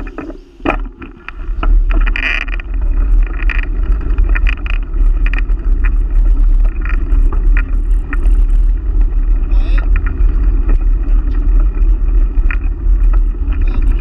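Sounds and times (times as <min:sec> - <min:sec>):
bicycle tyre noise on pavement: 0:00.0 - 0:14.0
bike clicks and rattles: 0:00.0 - 0:14.0
wind buffeting microphone: 0:00.0 - 0:14.0.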